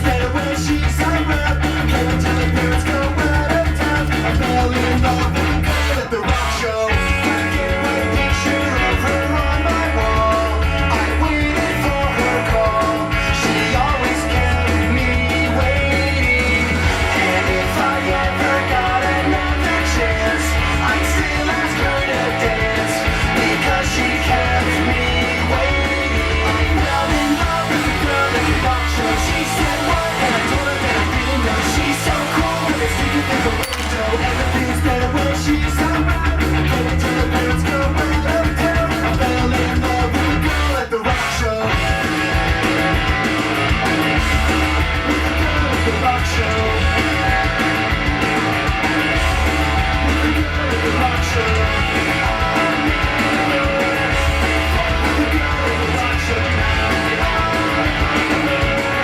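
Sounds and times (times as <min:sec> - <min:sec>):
rock music with singing: 0:00.0 - 0:59.0.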